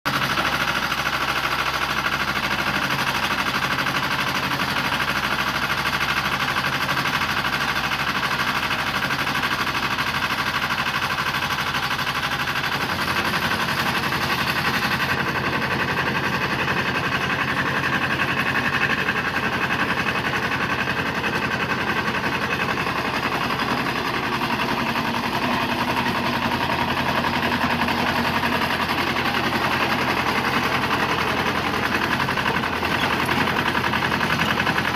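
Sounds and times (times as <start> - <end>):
diesel tractor engine running: 0.1 - 34.9.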